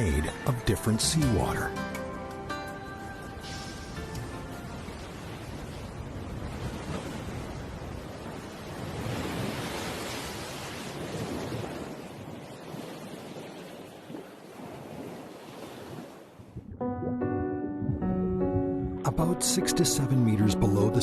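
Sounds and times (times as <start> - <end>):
sea waves breaking: 0.0 - 16.8.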